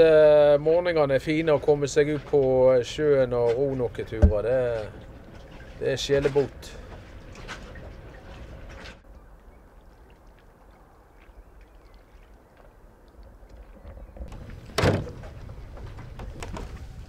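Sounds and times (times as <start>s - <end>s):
water lapping around boat: 0.0s - 17.0s.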